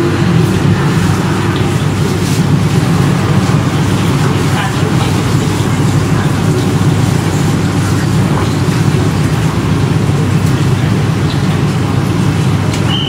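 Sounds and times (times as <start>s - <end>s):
loud steady low rumble: 0.0s - 13.0s.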